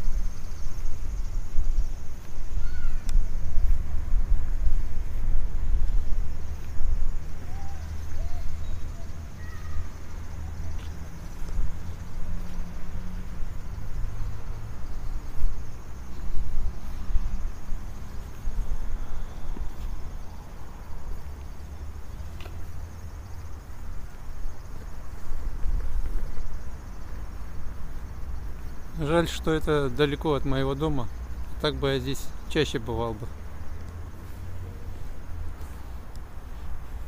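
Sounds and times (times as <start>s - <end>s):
low city rumble: 0.0s - 37.0s.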